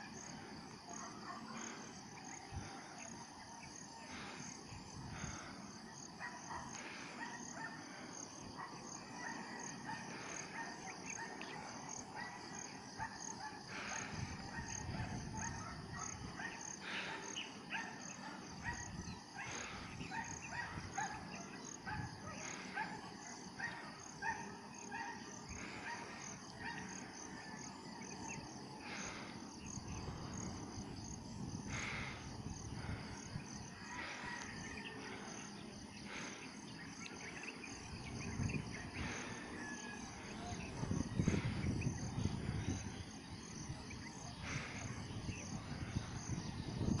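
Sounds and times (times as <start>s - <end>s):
insects chirping: 0.0s - 47.0s.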